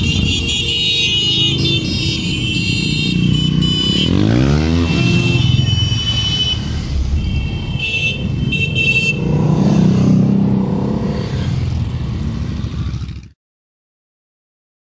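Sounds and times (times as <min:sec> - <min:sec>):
motorcycles riding past: 0:00.0 - 0:13.4.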